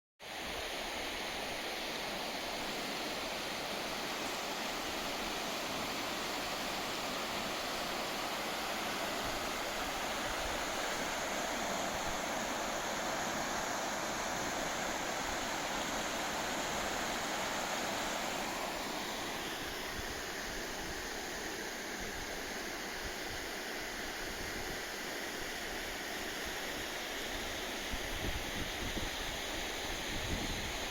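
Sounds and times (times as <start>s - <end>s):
river water rushing: 0.2s - 30.9s.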